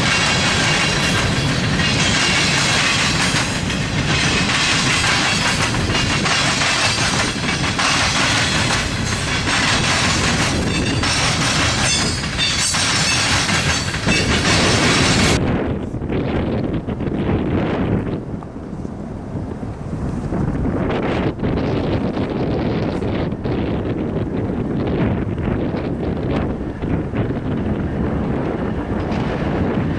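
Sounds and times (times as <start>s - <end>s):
freight train wheels on rails: 0.0s - 29.9s.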